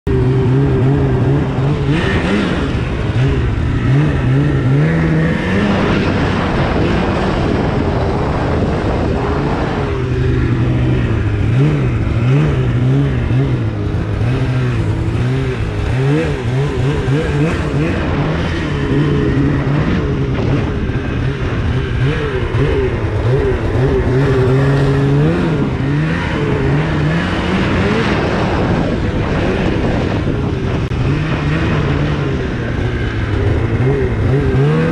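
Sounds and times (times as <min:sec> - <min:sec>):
snowmobile engine revving: 0:00.1 - 0:34.9.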